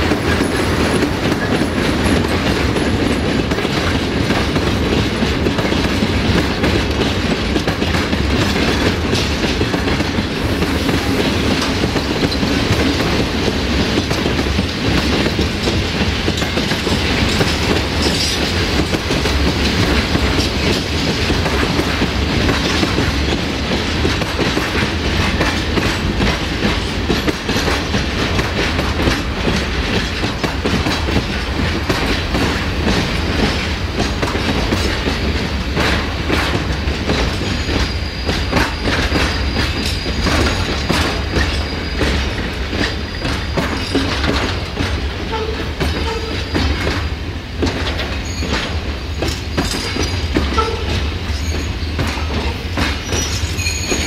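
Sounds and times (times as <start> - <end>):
clickety-clack over rail joints: 0.0 - 54.0
freight train wheels rumbling: 0.0 - 54.0.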